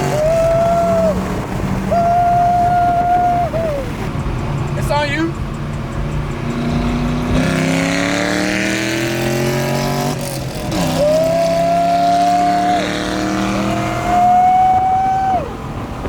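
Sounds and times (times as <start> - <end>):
car engine accelerating through gears: 0.0 - 16.0.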